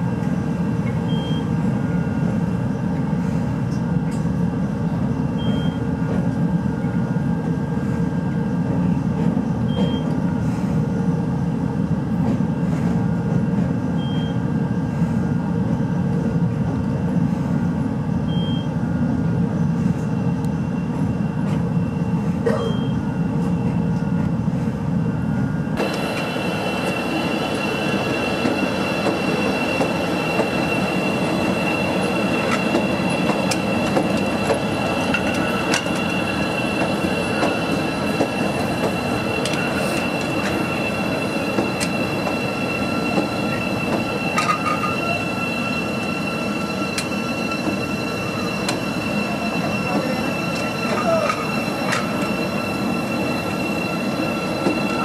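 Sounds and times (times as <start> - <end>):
train rumbling on elevated track: 0.0 - 55.0
train wheels squealing: 0.7 - 10.9, 12.5 - 15.4, 18.2 - 24.2, 25.8 - 55.0.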